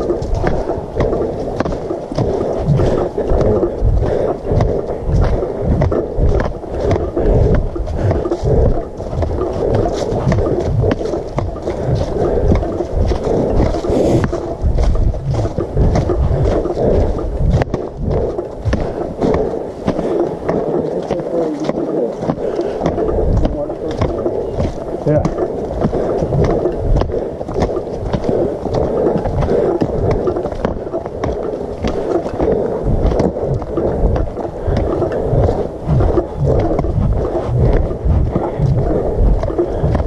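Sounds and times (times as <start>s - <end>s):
camera rubbing and thumping: 0.0s - 40.0s.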